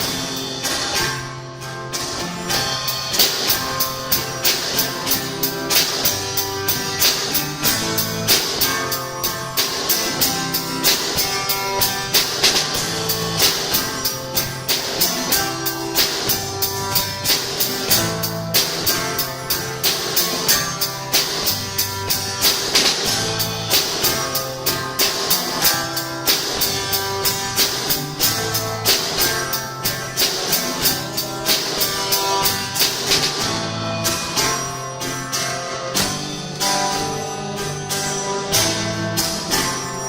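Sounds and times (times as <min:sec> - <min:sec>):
gospel band playing: 0:00.0 - 0:40.0.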